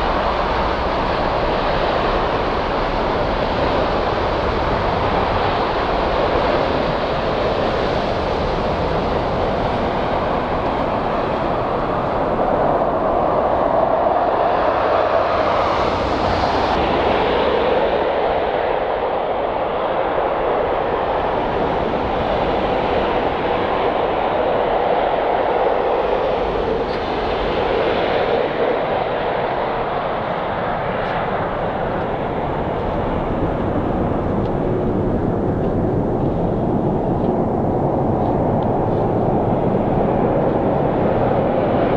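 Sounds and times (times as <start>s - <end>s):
jet engines rushing and rumbling: 0.0s - 41.9s.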